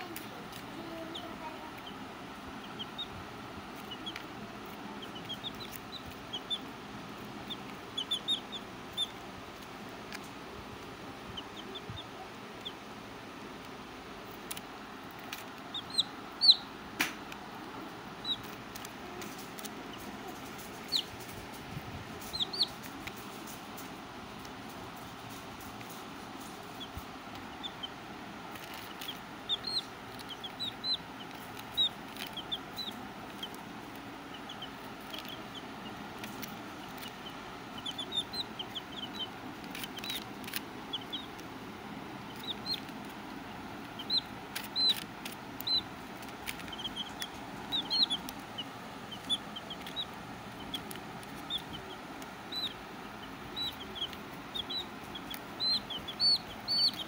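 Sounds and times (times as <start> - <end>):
baby chicks peeping: 0.0 - 57.0
steady background noise: 0.0 - 57.0.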